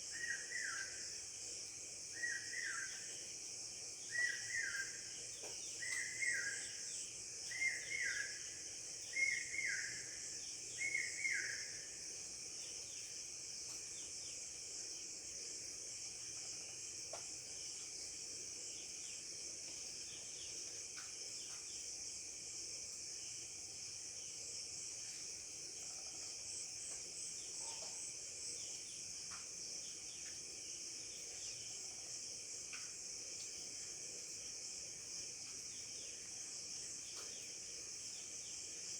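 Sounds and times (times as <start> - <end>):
insects chirring: 0.1 - 38.9.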